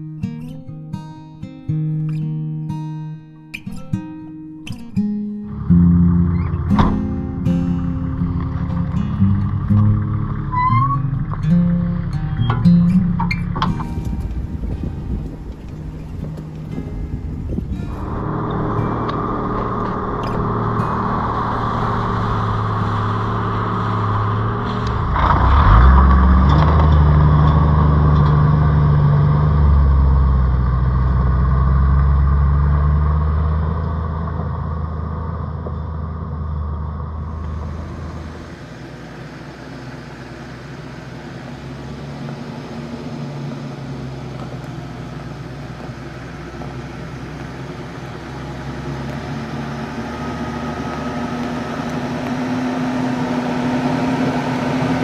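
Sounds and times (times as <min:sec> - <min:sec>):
vehicle engine rumble: 0:05.4 - 0:55.0.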